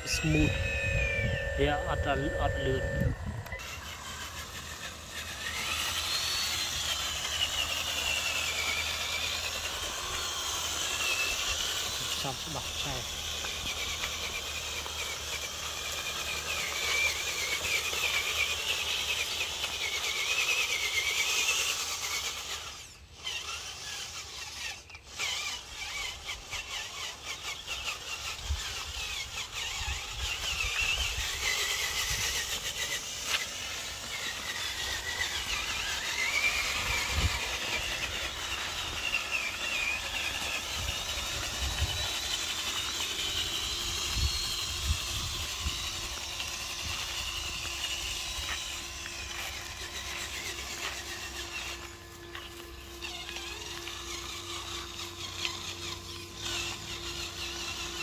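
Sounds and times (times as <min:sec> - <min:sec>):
small electric motor whining: 0:00.0 - 0:58.0.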